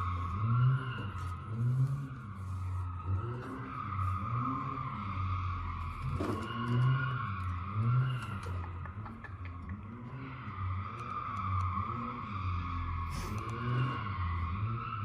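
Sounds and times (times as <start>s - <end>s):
car engine and driving noise: 0.0s - 15.0s.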